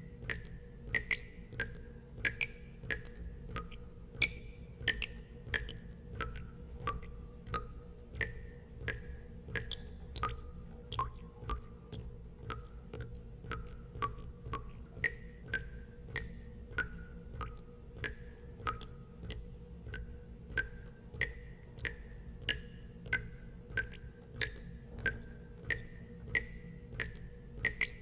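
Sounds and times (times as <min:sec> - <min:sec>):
low steady hum: 0:00.0 - 0:28.0
water drops plinking into water: 0:00.2 - 0:28.0.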